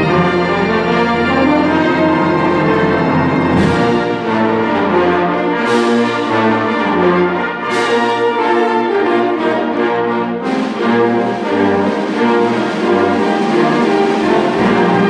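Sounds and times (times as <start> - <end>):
wind orchestra playing a carol: 0.0 - 15.0.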